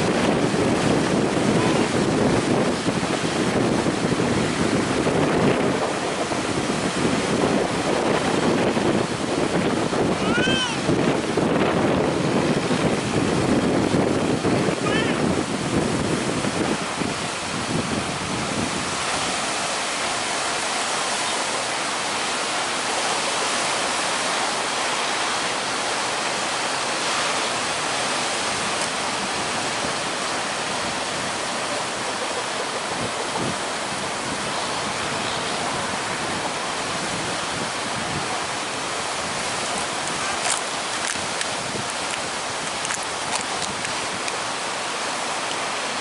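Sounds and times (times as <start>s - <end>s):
heavy surf: 0.0s - 46.0s
strong wind: 0.0s - 46.0s.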